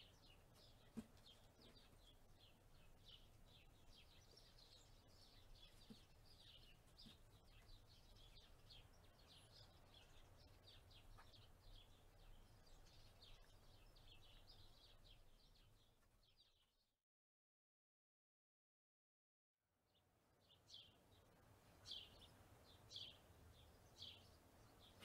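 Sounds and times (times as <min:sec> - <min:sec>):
small birds chirping: 0:00.0 - 0:16.9, 0:20.0 - 0:25.0.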